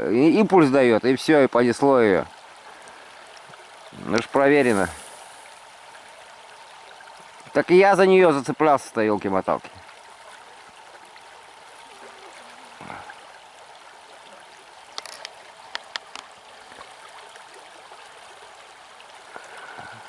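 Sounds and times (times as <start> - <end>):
river water rushing: 1.2 - 20.0.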